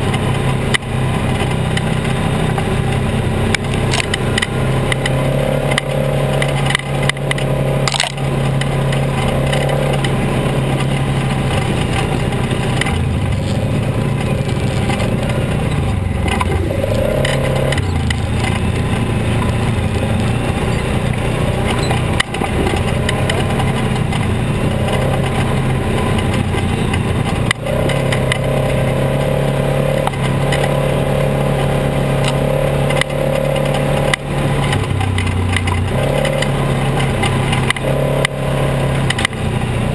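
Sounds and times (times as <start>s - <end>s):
vehicle engine running: 0.0s - 39.9s
tyres crunching on gravel: 1.2s - 39.9s.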